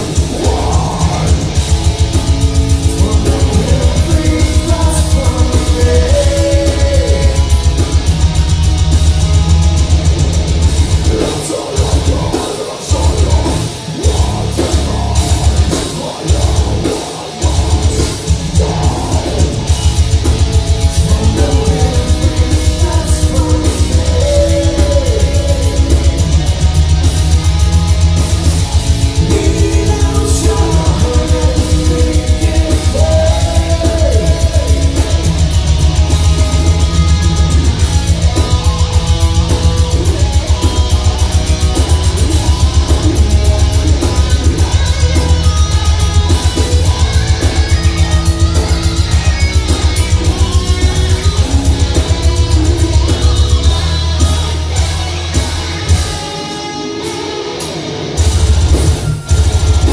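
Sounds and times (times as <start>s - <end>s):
distorted electric guitars: 0.0s - 59.9s
drums with fast kick-drum: 0.0s - 59.9s.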